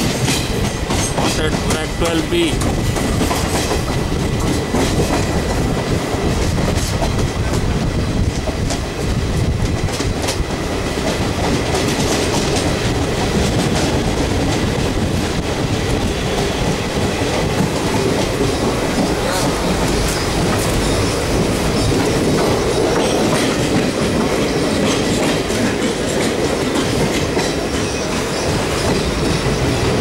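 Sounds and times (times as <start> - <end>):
train wheels clattering over joints: 0.0 - 30.0.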